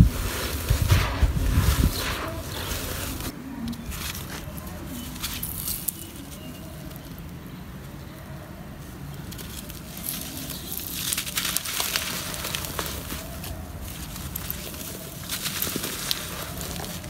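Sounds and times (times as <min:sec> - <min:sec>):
dry dirt crumbling in hands: 0:00.0 - 0:07.4, 0:08.9 - 0:17.0.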